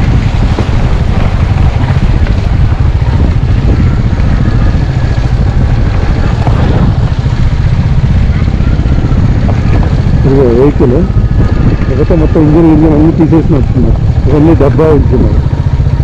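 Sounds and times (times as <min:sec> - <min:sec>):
motorcycle engine running: 0:00.0 - 0:16.0
wind rumble on microphone: 0:00.0 - 0:16.0.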